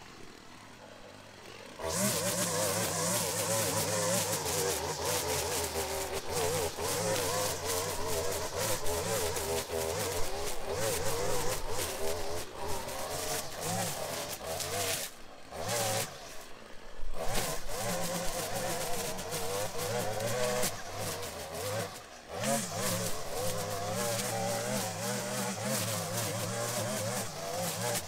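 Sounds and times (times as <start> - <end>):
string trimmer cutting grass: 0.0 - 28.0.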